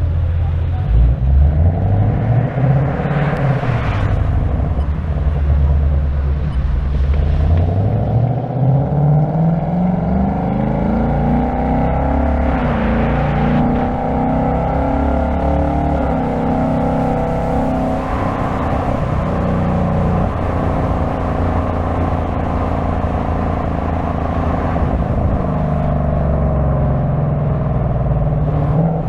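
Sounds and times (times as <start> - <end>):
car engine running: 0.0 - 8.6, 9.4 - 29.0.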